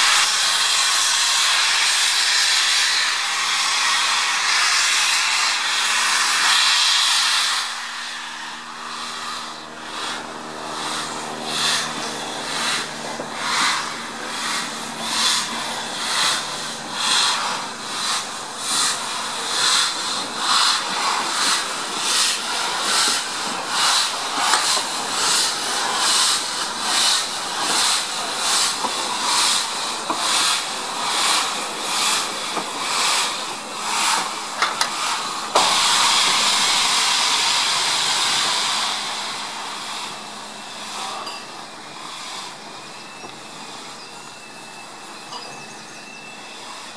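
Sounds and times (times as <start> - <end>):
steam hissing: 0.0 - 46.9
steam locomotive exhaust chuffs: 0.0 - 46.9.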